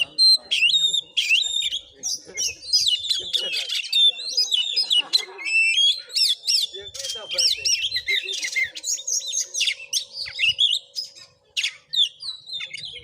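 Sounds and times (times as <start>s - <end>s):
bird singing whistles and chirps: 0.0s - 13.0s.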